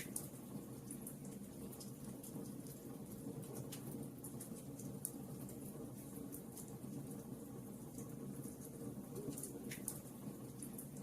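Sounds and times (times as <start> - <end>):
fire crackling and popping: 0.0 - 11.0
wood fire burning: 0.0 - 11.0.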